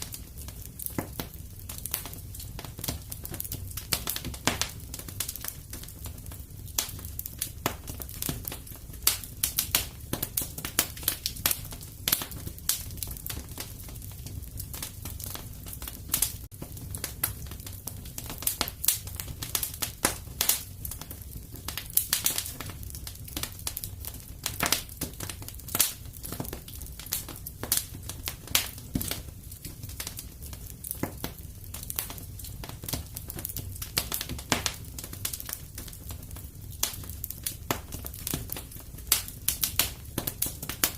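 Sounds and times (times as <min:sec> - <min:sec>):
fire crackling and snapping: 0:00.0 - 0:40.9
fire flames rumbling: 0:00.0 - 0:40.9.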